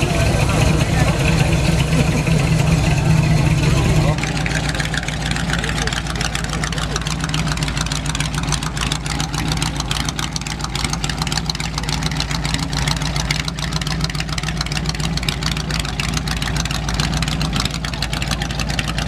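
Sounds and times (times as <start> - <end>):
car engine exhaust rumble: 0.0 - 19.0.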